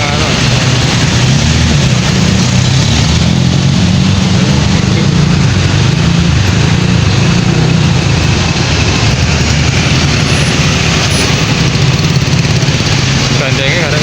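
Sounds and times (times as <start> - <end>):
heavy bus engine running: 0.0 - 14.0
passing traffic road noise: 0.0 - 14.0.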